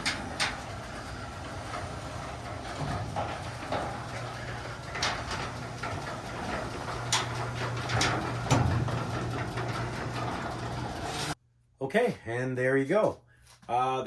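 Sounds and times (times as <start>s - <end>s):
door rollers clicking and rattling: 0.0s - 11.4s
garage door opener motor humming: 0.0s - 11.4s.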